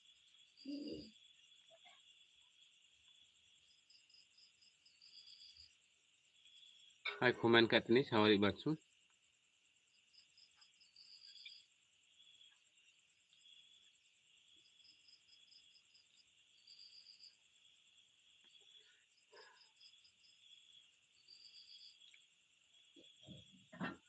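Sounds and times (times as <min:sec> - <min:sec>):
crickets trilling: 0:00.0 - 0:24.0
rapid insect chirps: 0:00.0 - 0:24.0.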